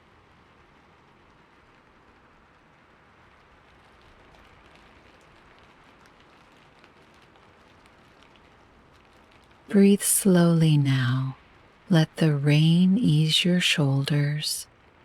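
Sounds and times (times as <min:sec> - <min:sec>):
faint rain patter: 0:00.0 - 0:15.0.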